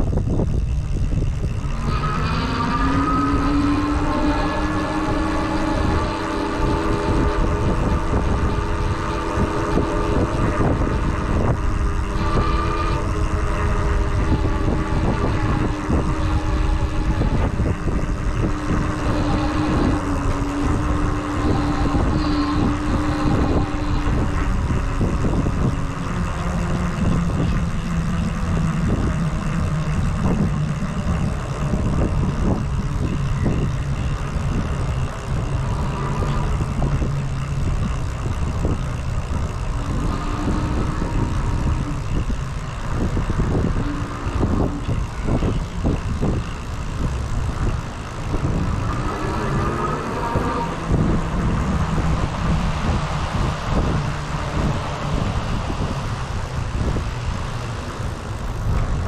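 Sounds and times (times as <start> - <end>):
faint steady hum: 0.0 - 59.0
tyre and road noise: 0.0 - 59.0
wind buffeting microphone: 0.0 - 59.0.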